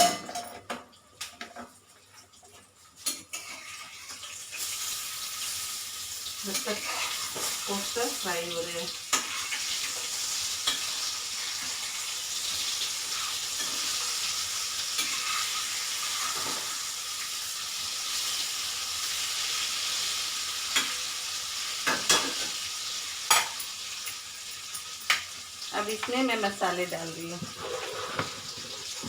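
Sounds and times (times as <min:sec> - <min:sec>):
food deep-frying in hot oil: 0:00.0 - 0:29.0.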